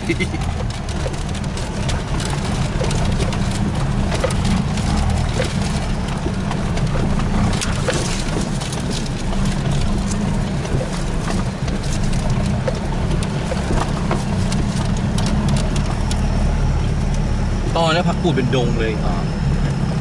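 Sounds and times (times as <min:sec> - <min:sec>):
knocks and rattles: 0:00.0 - 0:16.4
vehicle engine running: 0:00.0 - 0:20.0.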